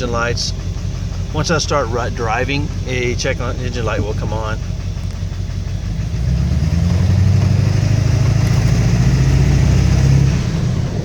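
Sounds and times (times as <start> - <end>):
diesel truck accelerating: 0.0 - 11.0.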